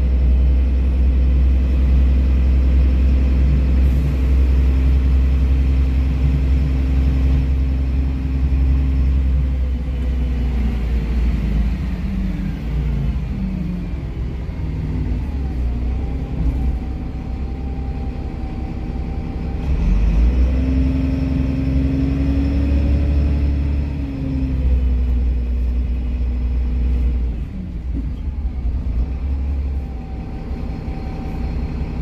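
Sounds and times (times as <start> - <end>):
bus diesel engine: 0.0 - 32.0.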